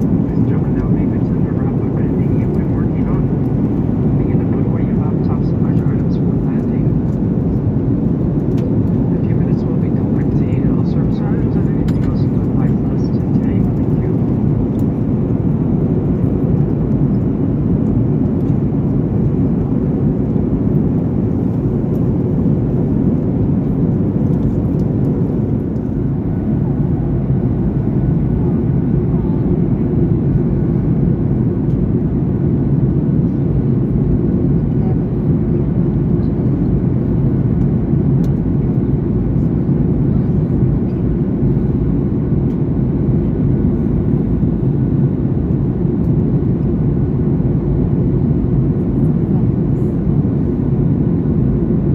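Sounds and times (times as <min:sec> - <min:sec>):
airplane cabin drone: 0:00.0 - 0:51.9.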